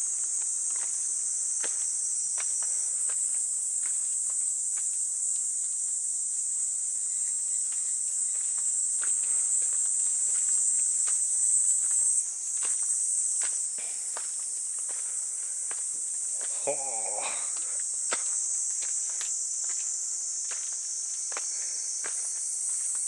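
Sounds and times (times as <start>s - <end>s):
footsteps on leafy stone path: 0.0s - 23.0s
high-pitched insect chorus: 0.0s - 23.0s.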